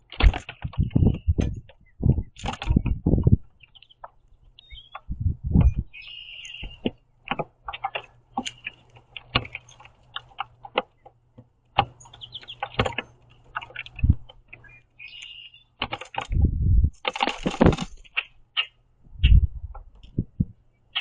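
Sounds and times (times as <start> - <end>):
birds cracking seeds: 0.0 - 20.2, 20.8 - 21.0.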